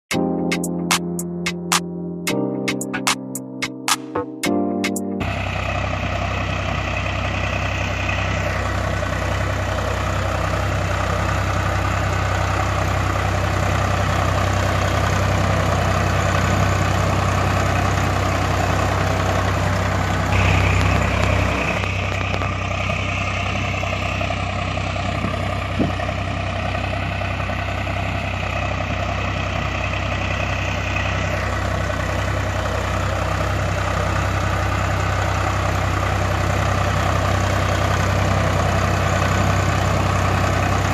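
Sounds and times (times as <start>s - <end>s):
heavy tractor engine idling: 5.2s - 40.9s.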